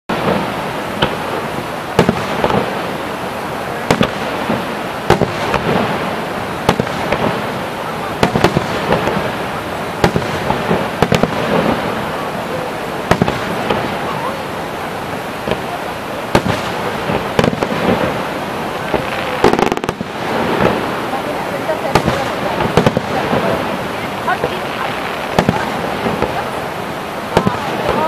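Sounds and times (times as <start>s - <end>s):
distant voices: 0.1s - 28.0s
fireworks bangs: 0.1s - 28.0s.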